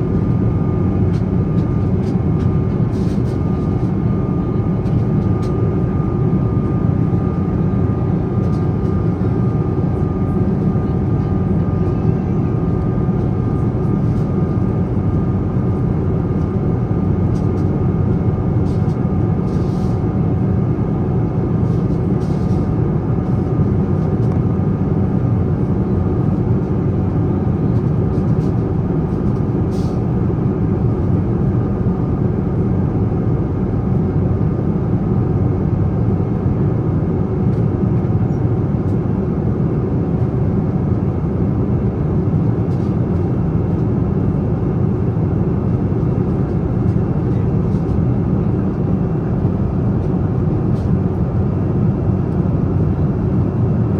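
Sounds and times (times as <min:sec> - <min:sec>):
aircraft cabin drone: 0:00.0 - 0:53.9.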